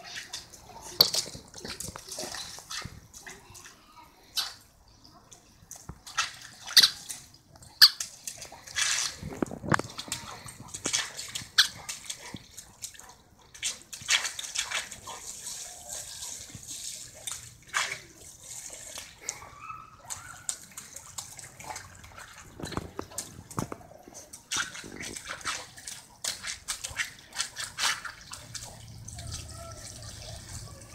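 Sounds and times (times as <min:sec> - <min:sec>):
water splashing from hose: 0:00.0 - 0:04.7, 0:05.3 - 0:30.9.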